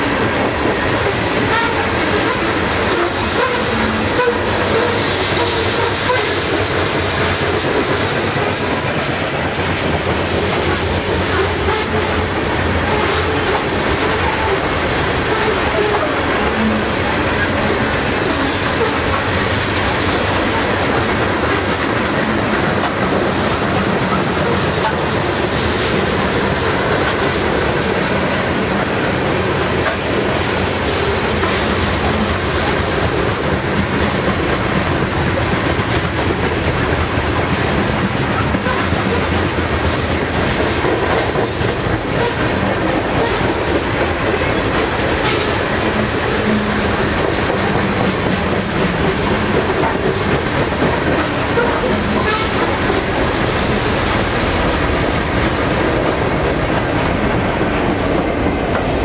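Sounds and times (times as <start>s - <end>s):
freight train rumbling past: 0.0s - 59.0s
wheels clicking over rail joints: 0.0s - 59.0s.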